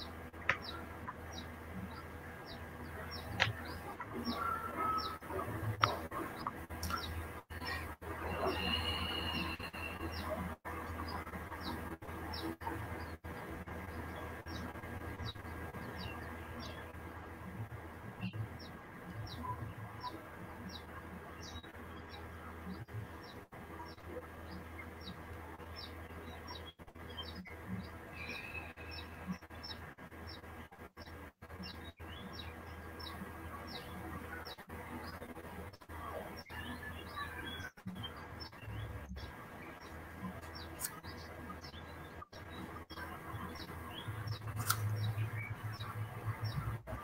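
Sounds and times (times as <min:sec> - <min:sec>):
small bird chirping: 0:00.0 - 0:47.0
steady low hum: 0:00.0 - 0:47.0.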